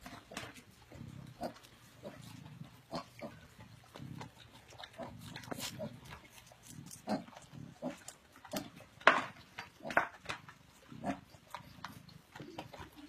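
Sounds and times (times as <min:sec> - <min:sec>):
pig eating smacks: 0:00.0 - 0:13.0
pig grunting: 0:00.0 - 0:13.0.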